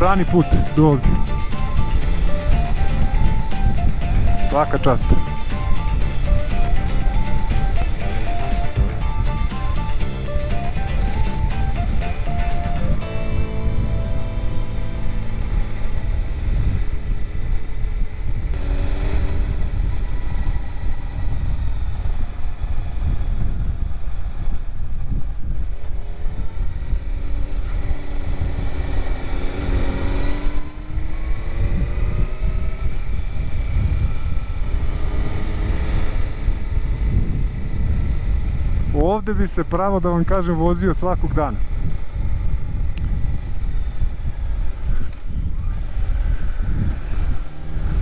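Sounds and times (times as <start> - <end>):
motorcycle engine accelerating: 0.0 - 39.3, 41.6 - 48.0
wind rumble on microphone: 0.0 - 48.0.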